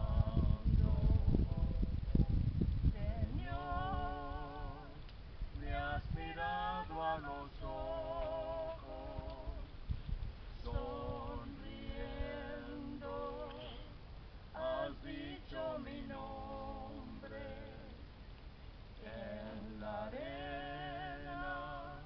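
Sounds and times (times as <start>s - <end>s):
person singing with vibrato: 0.0s - 9.9s, 10.5s - 18.2s, 19.0s - 22.0s
low rumble: 0.0s - 22.0s.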